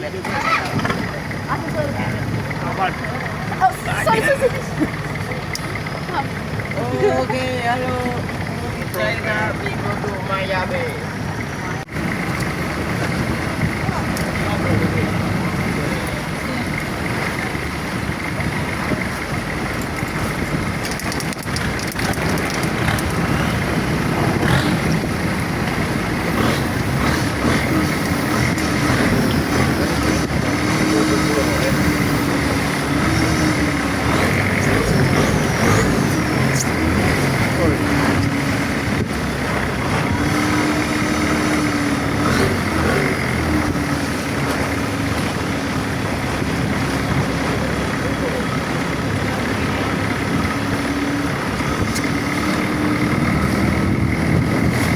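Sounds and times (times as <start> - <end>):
boat engine running: 0.0 - 54.9
water noise: 0.7 - 54.9.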